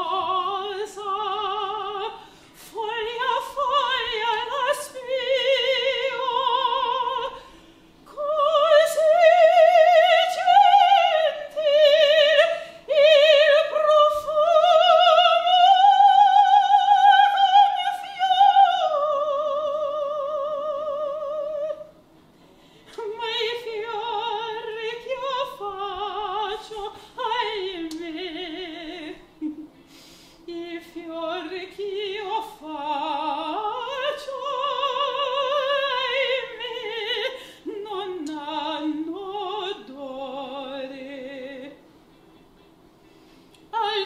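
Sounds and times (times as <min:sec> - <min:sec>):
woman singing opera: 0:00.0 - 0:21.9, 0:22.9 - 0:29.7, 0:30.4 - 0:41.8, 0:43.7 - 0:44.0.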